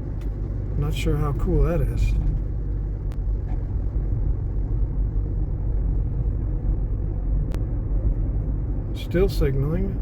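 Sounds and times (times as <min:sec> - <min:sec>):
road and tyre rumble: 0:00.0 - 0:10.0.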